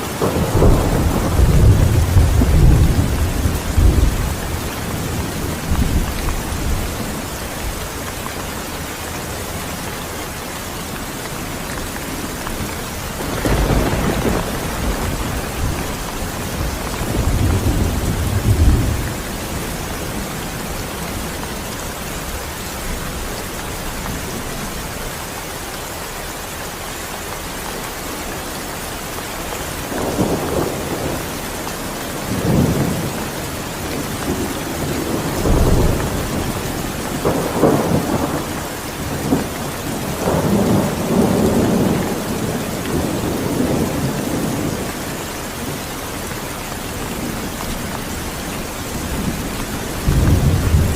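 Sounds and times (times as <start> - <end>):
thunder rumbling: 0.0 - 25.2, 29.7 - 45.8, 46.7 - 50.9
heavy rain: 0.0 - 50.9.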